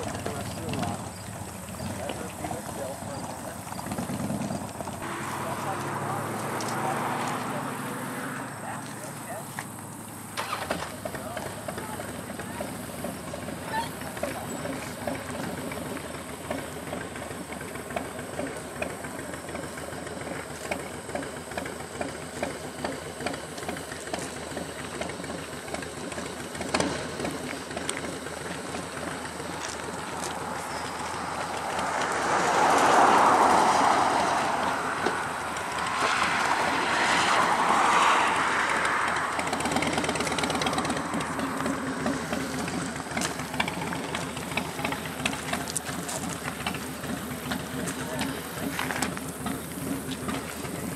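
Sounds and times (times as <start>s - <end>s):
motorcycle engines idling: 0.0s - 50.9s
vehicles passing close by: 0.0s - 50.9s.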